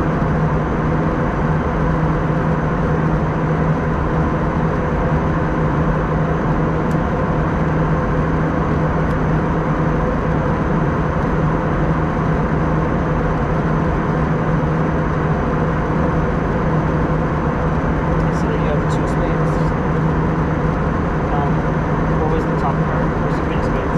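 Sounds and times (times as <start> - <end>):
airplane cabin engine drone: 0.0 - 23.9
constant hums: 0.0 - 23.9.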